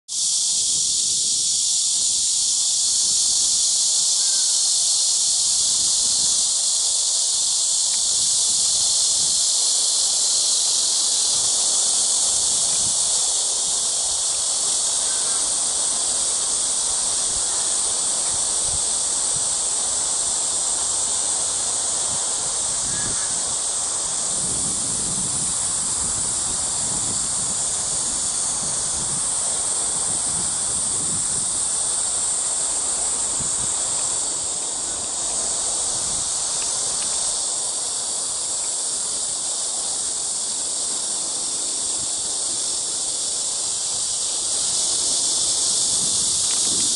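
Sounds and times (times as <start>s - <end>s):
cicadas buzzing: 0.0s - 46.9s.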